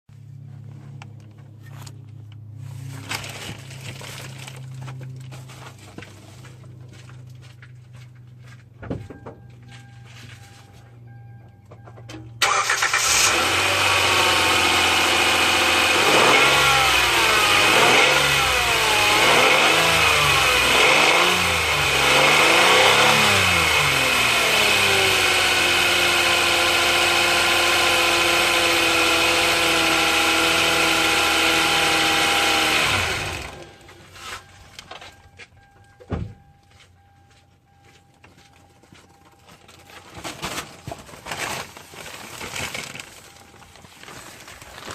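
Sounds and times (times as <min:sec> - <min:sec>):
car engine running with whine: 0:00.1 - 0:44.9.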